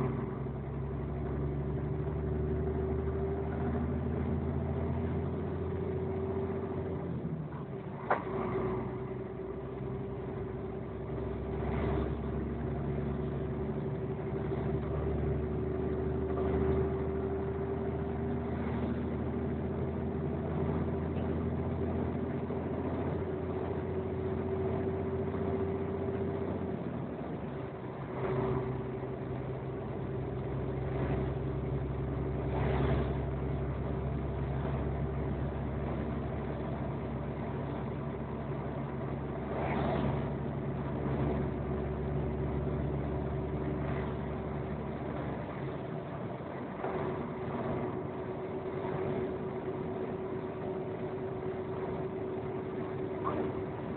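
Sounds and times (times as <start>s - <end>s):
vehicle engine running: 0.0s - 53.9s
vehicles passing: 0.0s - 53.9s.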